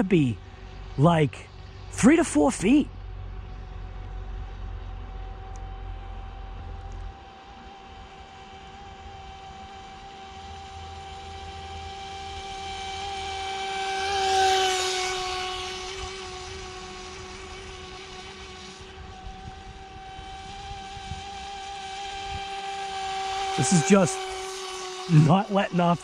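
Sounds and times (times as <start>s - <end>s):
motor whining: 0.0s - 26.0s.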